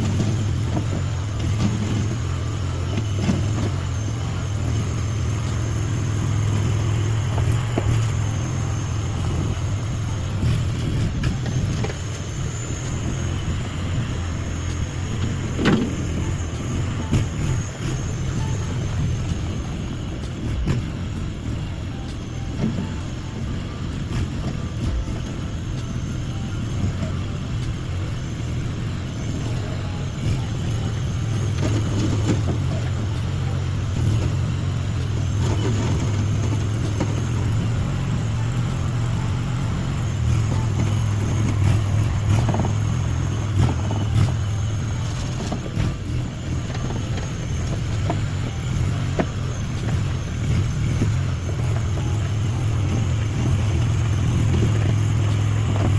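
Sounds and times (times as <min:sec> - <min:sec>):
small engine running: 0:00.0 - 0:55.9.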